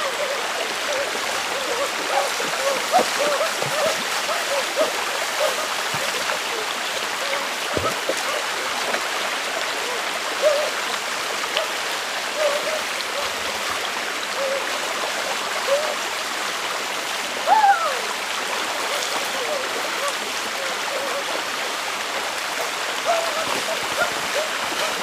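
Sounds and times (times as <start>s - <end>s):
water splashing: 0.0s - 25.0s.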